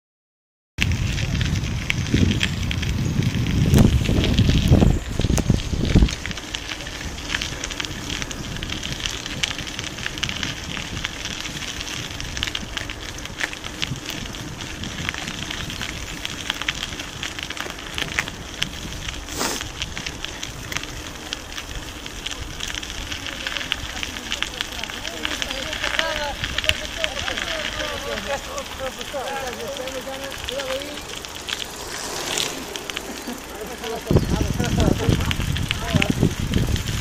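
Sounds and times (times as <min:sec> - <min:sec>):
bike tyres crackling on gravel: 0:00.8 - 0:37.0.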